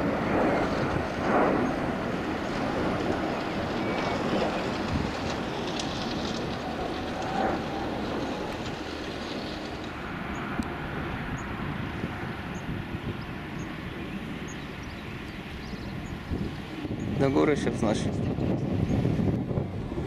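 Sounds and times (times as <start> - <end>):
jet flying past: 0.0 - 20.0.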